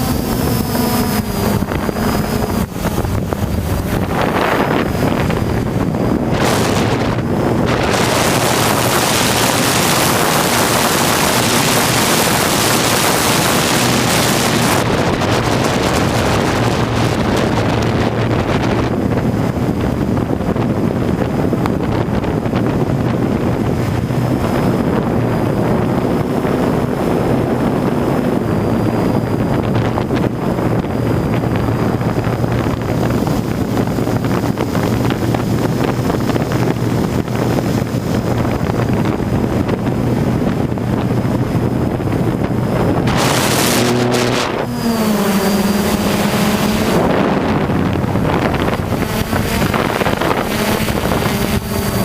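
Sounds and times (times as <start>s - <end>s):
drone motors humming: 0.0s - 52.0s
wind buffeting microphone: 0.0s - 52.0s.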